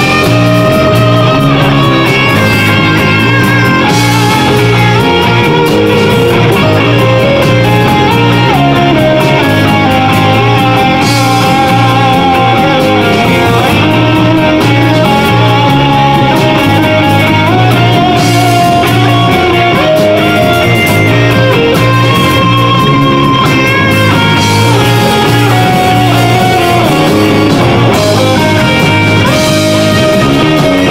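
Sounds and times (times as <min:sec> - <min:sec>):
metal band playing: 0:00.0 - 0:30.9.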